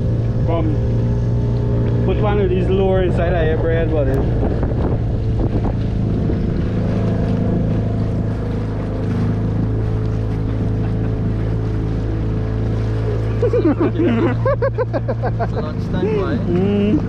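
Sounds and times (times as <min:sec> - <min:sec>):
outboard motor running: 0:00.0 - 0:17.0
water washing along hull: 0:00.0 - 0:17.0.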